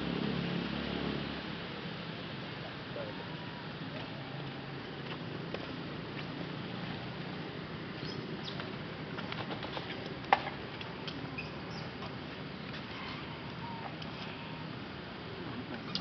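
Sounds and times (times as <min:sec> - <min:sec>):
low forest background: 0:00.0 - 0:16.0.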